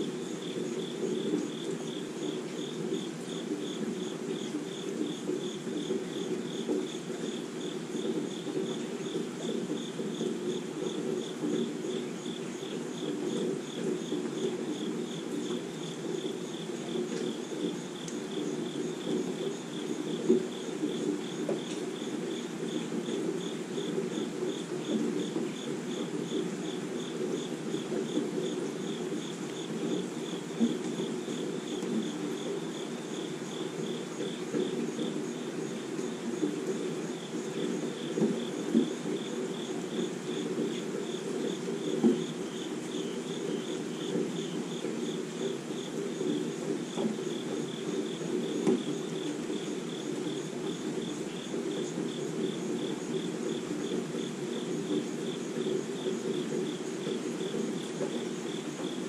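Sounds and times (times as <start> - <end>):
insect chirping: 0.0 - 59.0
light rain on trees and grass: 0.0 - 59.0.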